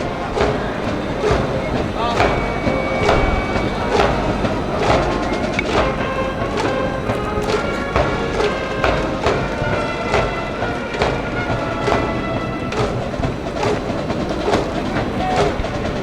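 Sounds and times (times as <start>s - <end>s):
brass band playing: 0.0s - 16.0s
steady drum beat: 0.0s - 16.0s.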